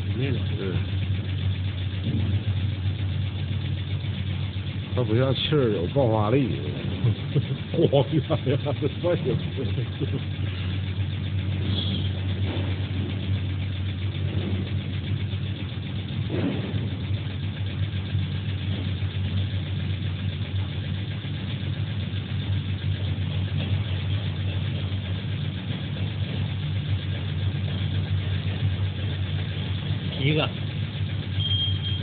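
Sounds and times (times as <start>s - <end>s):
pump motor droning: 0.0s - 32.0s.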